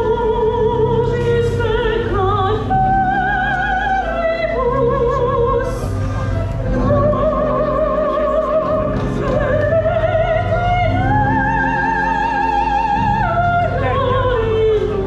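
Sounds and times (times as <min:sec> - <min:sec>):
low musical accompaniment: 0:00.0 - 0:15.0
operatic voice singing: 0:00.0 - 0:15.0.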